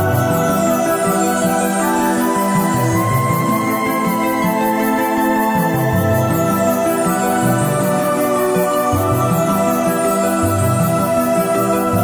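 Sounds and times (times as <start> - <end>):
background music sustained chords: 0.0 - 12.0.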